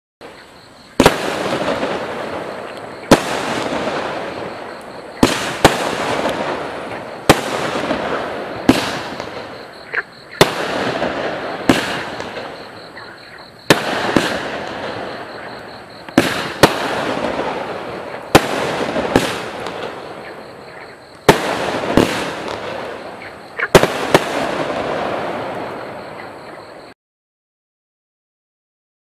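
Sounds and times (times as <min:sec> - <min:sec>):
firework bangs: 0:00.9 - 0:26.6.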